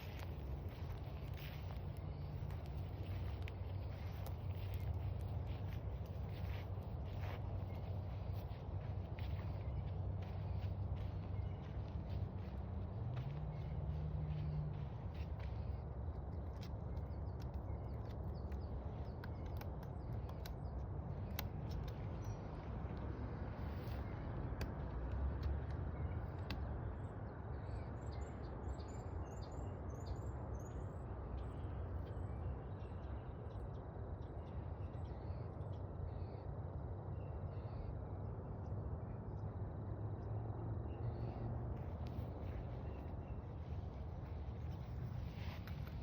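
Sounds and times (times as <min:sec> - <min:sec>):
steady low rumble: 0:00.0 - 0:28.2, 0:30.3 - 0:46.0
small birds chirping: 0:00.0 - 0:36.6, 0:40.9 - 0:46.0.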